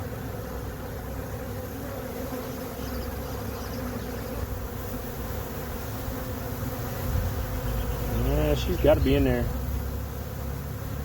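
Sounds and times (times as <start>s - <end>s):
honey bees buzzing: 0.0s - 11.0s.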